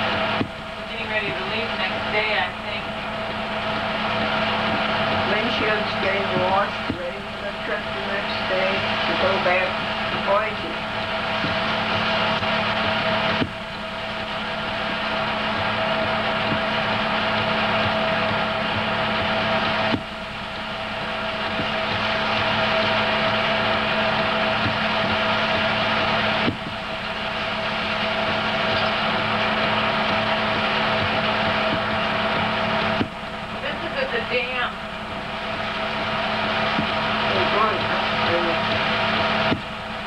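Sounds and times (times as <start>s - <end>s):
film projector whirring: 0.0s - 40.0s.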